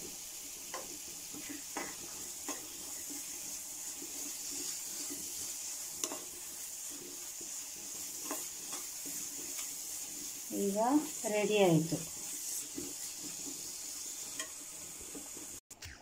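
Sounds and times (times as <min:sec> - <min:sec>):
pan sizzling: 0:00.0 - 0:15.6.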